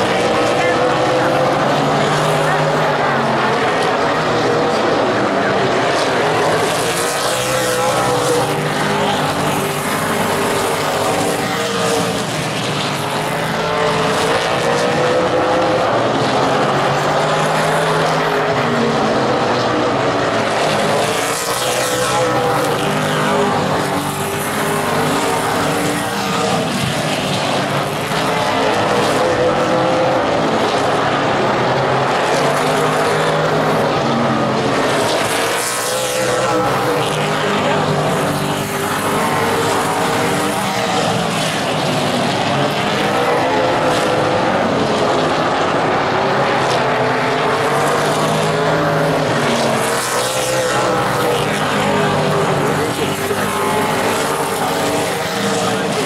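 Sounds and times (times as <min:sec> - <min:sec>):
race car engines roaring past: 0:00.0 - 0:56.0.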